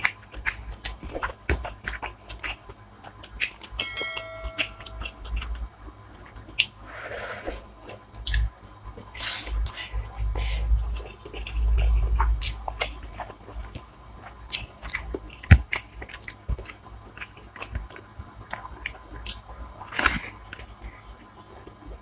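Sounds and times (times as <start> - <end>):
biting and chewing: 0.0 - 6.8, 7.4 - 22.0.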